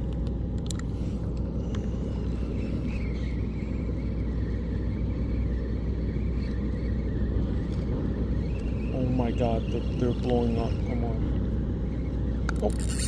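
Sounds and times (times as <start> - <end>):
wind buffeting microphone: 1.4 - 13.0.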